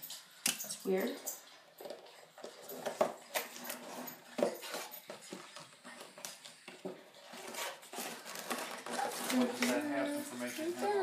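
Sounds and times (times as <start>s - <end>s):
cardboard and paper packaging rustling: 1.6s - 11.0s.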